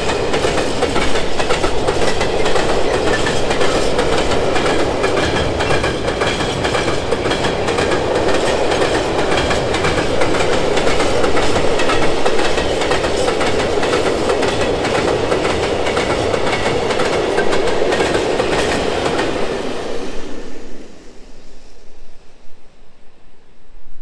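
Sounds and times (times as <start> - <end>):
freight train wheels clacking: 0.0 - 20.2.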